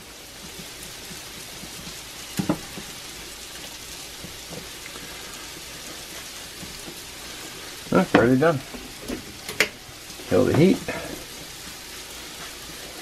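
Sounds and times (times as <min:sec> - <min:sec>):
eggs sizzling in a skillet: 0:00.0 - 0:13.0
spatula stirring in a skillet: 0:00.0 - 0:13.0.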